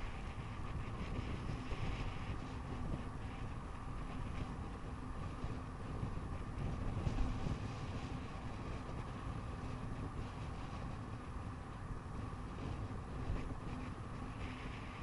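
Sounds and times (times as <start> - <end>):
bicycle tyres rumbling on asphalt: 0.0 - 15.0
wind buffeting microphone: 0.0 - 15.0.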